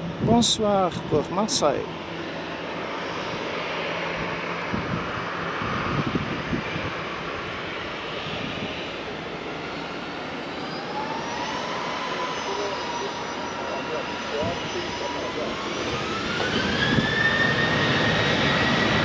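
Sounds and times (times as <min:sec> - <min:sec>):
jet engines running at low thrust: 0:00.0 - 0:19.0
rising engine whine: 0:00.0 - 0:19.0.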